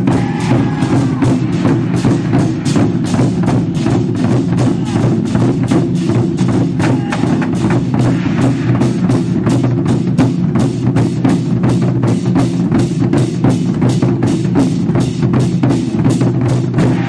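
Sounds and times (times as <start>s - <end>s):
large barrel drums beaten: 0.0s - 17.0s.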